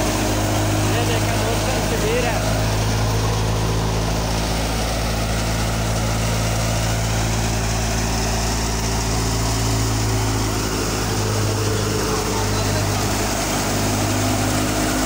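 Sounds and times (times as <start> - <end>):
thresher whirring rush: 0.0 - 15.0
tractor diesel engine running: 0.0 - 15.0.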